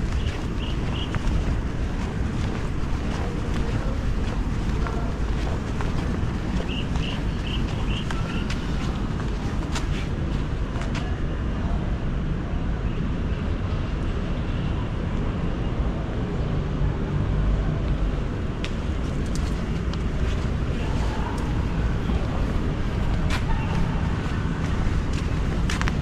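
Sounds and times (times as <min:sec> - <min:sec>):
low street rumble: 0:00.0 - 0:26.0.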